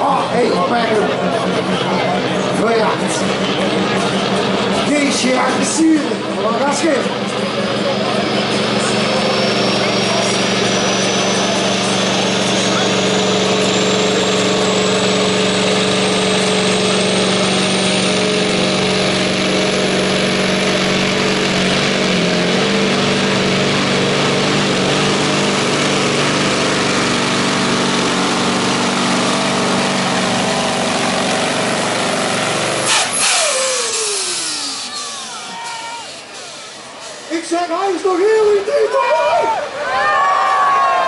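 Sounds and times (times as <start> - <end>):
diesel engine loud drone: 0.0 - 41.0.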